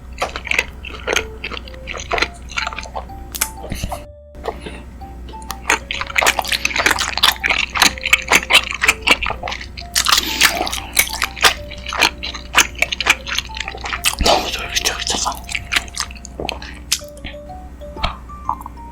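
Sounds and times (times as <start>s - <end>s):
wet chewing with sticky smacks: 0.0s - 17.4s.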